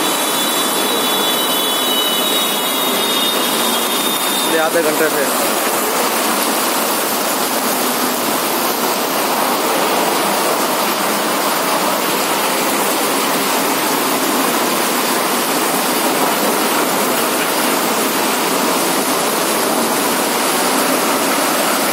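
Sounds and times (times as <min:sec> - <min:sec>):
heavy rain: 0:00.0 - 0:21.9.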